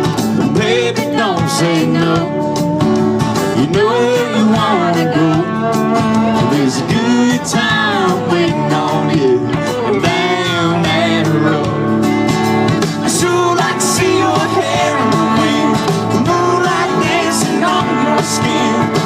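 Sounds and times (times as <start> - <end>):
country band with guitars: 0.0 - 19.0.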